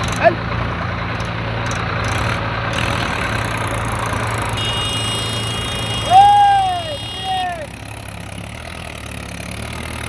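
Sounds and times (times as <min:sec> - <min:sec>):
tractor diesel engine humming: 0:00.0 - 0:10.0.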